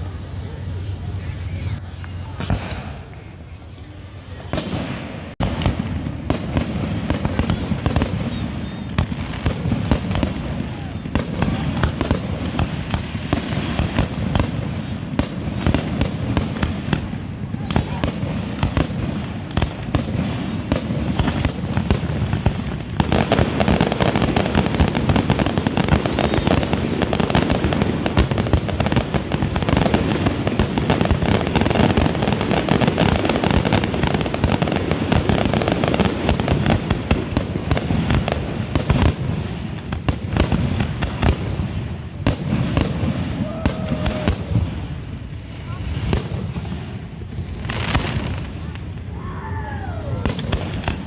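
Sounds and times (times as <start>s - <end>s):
fireworks bangs and crackles: 1.4s - 51.0s.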